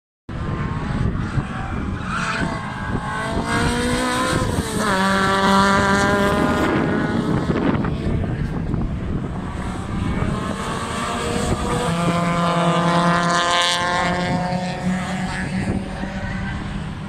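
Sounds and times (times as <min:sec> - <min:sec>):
race car engine passing: 0:00.3 - 0:17.0.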